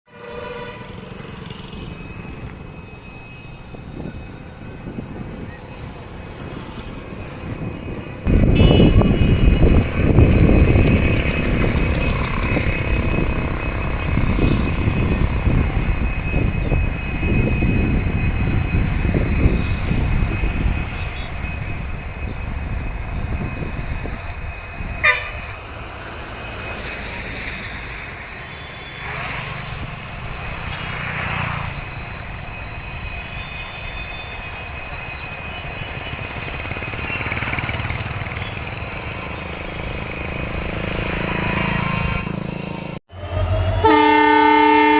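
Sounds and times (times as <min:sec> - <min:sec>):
diesel locomotive rumbling: 0:00.1 - 0:44.9.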